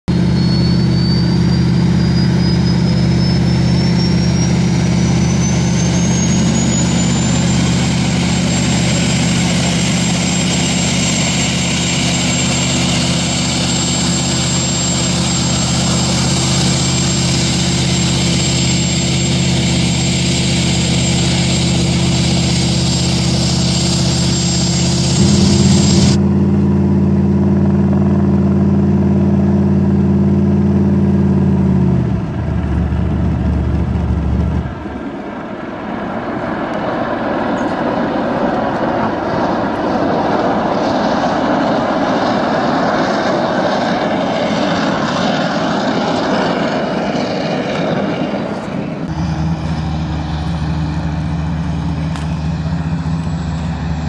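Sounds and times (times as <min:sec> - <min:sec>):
high engine whine: 0:00.0 - 0:54.0
jet boat engine running: 0:00.1 - 0:54.0.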